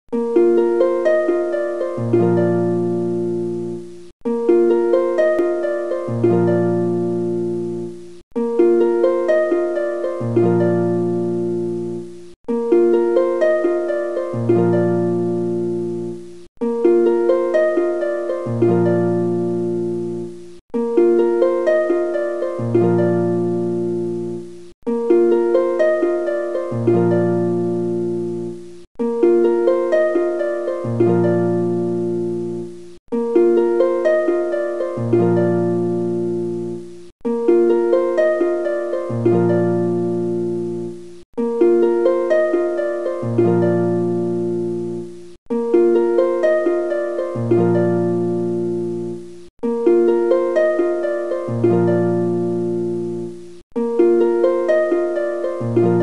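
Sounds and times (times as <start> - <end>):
plucked-string melody: 0.1 - 56.0.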